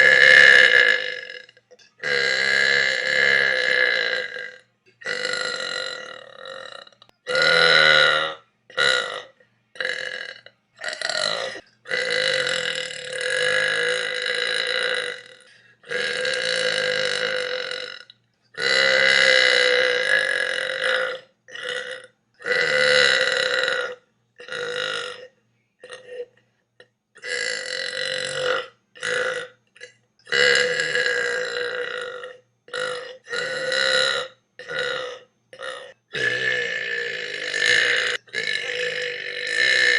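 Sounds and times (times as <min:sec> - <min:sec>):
person belching: 0:00.0 - 0:39.9.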